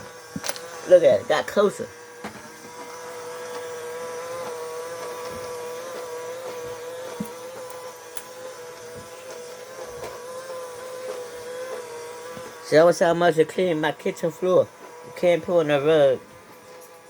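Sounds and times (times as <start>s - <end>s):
robot vacuum motor whine: 0.0s - 17.0s.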